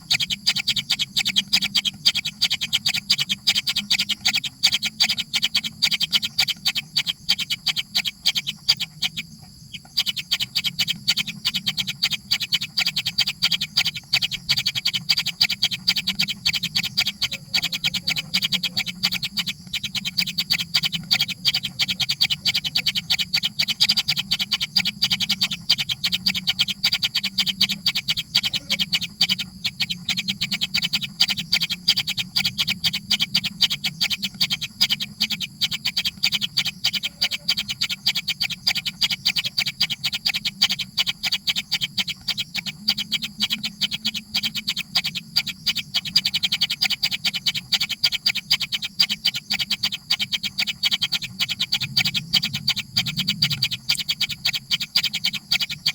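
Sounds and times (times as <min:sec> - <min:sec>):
baby birds chirping: 0:00.0 - 0:55.9.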